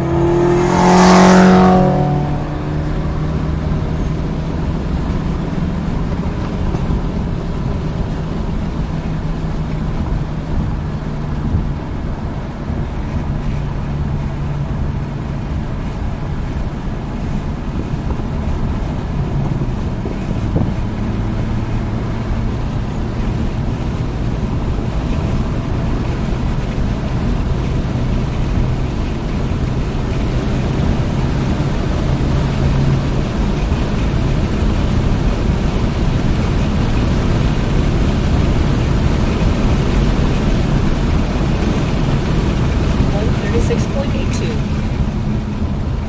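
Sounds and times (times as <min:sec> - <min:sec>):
car engine pulling at steady revs: 0:00.0 - 0:46.0
wind noise: 0:00.0 - 0:46.0.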